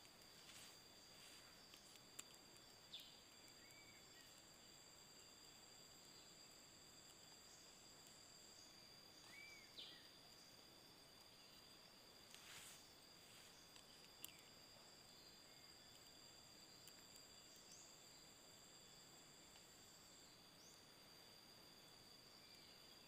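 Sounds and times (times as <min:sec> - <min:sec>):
faint chirps: 0:00.0 - 0:23.0.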